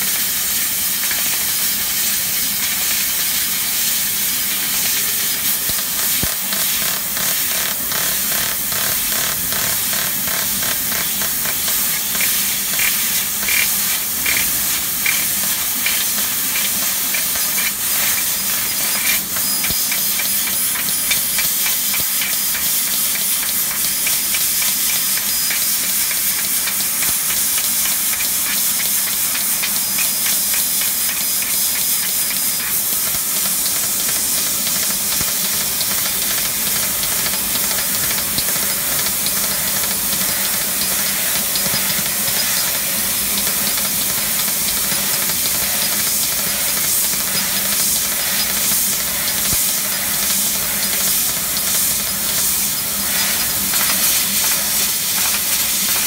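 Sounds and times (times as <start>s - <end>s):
laser gas jet hissing: 0.1s - 56.0s.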